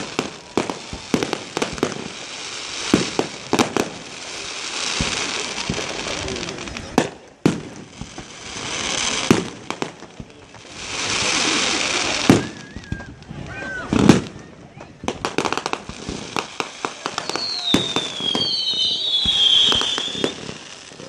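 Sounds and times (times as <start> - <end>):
fireworks bangs: 0.0 - 21.0
fireworks hiss: 0.0 - 21.0.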